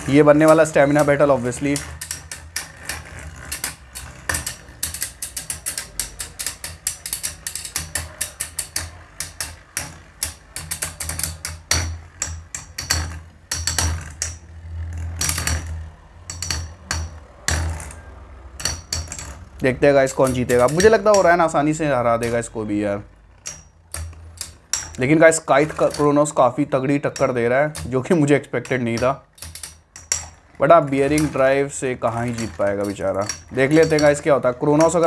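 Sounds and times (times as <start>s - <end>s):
spinning tops clicking and rattling: 0.0s - 35.0s.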